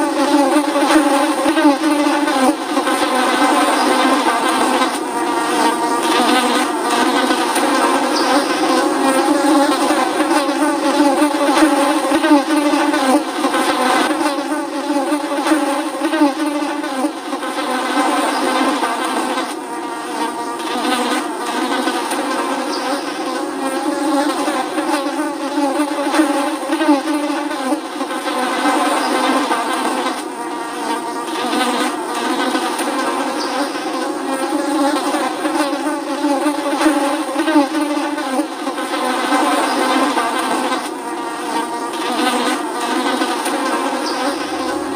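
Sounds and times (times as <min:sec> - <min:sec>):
flies buzzing: 0:00.0 - 0:44.9.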